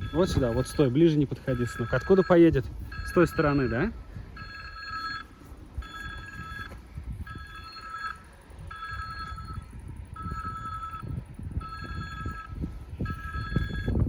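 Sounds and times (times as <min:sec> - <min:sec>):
level crossing electronic ringing: 0:00.0 - 0:14.0.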